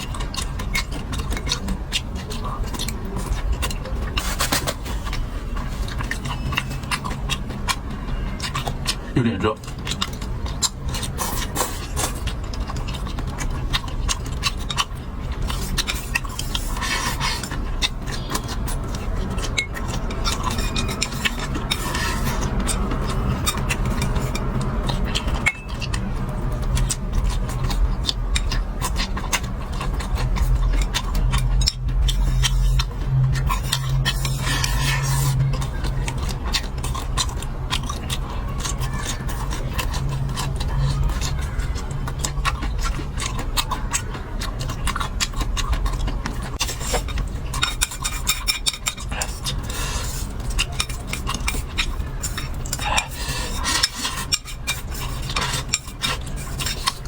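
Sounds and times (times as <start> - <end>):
chewing: 0.0 - 57.0
steady low hum: 0.0 - 57.0
utensils clicking on dishes: 0.0 - 57.0.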